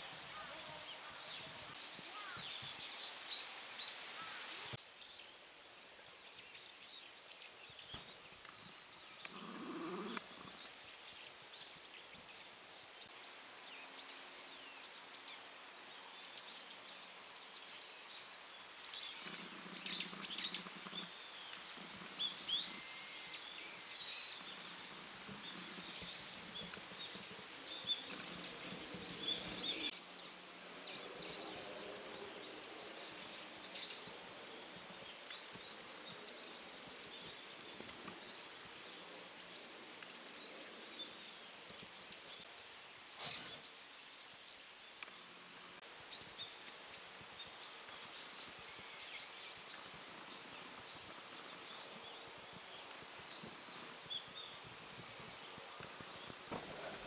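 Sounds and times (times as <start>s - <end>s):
outdoor background noise: 0.0s - 57.0s
small birds chirping: 0.0s - 57.0s.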